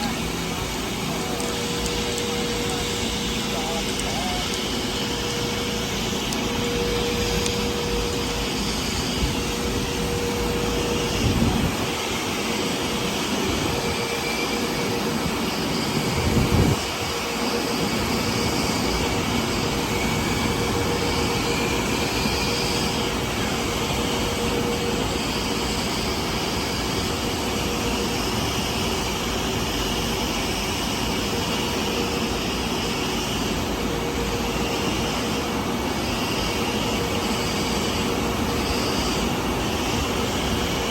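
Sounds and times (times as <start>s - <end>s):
car wash machinery drone: 0.0s - 40.9s
constant whine: 0.0s - 40.9s
vacuum motors running: 0.0s - 40.9s.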